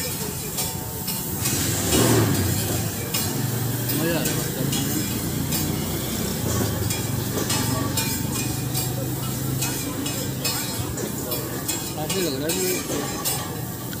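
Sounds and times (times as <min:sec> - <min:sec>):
metal spatula scraping hot plate: 0:00.0 - 0:13.9
griddle sizzling: 0:00.0 - 0:14.0.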